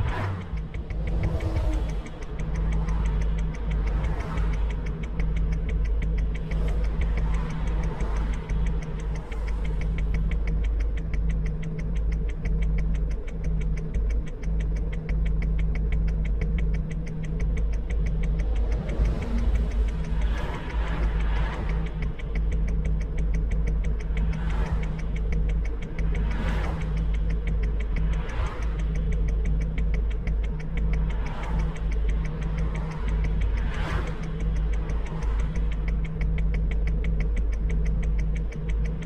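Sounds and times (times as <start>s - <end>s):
engine idling: 0.0s - 39.0s
fast even ticking: 0.0s - 39.0s.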